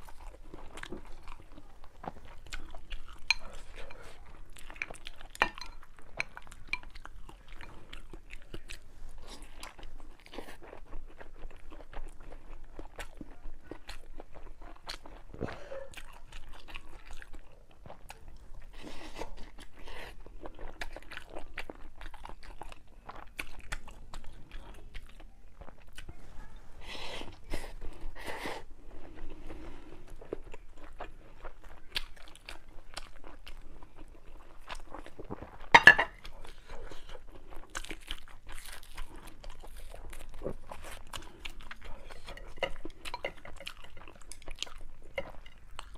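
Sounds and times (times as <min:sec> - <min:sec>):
person chewing crunchy food: 0:00.0 - 0:26.2, 0:26.8 - 0:45.9.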